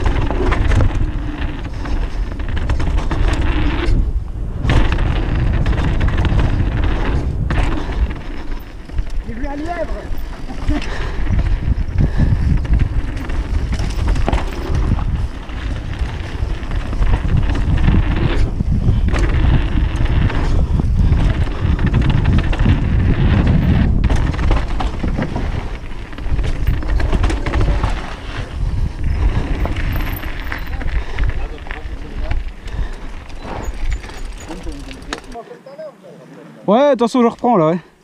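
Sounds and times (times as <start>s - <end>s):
bike rattling over bumps: 0.0s - 35.4s
bike tyres rumbling on dirt: 0.0s - 35.4s
wind buffeting microphone: 0.0s - 35.4s.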